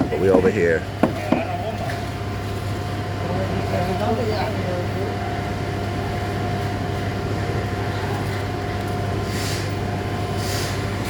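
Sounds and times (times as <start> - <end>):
large engine droning: 0.0 - 11.0.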